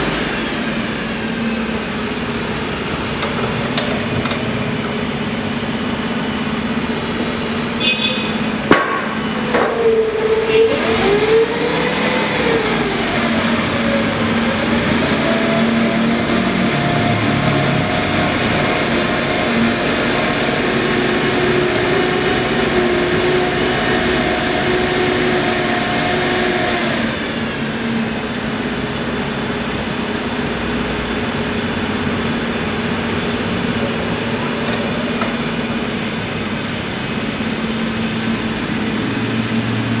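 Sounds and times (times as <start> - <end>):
forklift engine running: 0.0 - 40.0.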